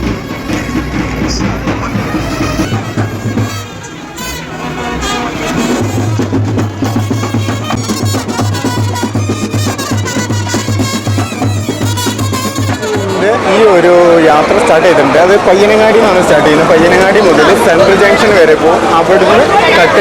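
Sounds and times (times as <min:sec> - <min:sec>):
brass band with drums playing: 0:00.0 - 0:20.0.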